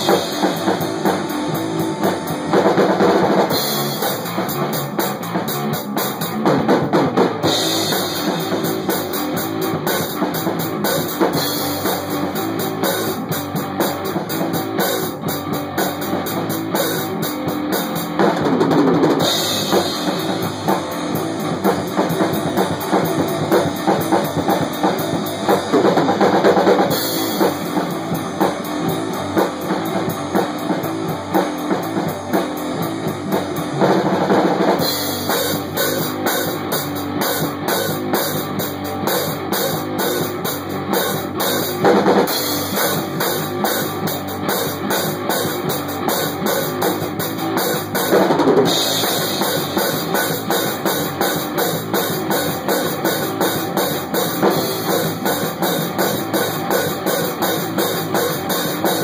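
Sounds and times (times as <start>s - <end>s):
fast rock music: 0.0s - 59.0s.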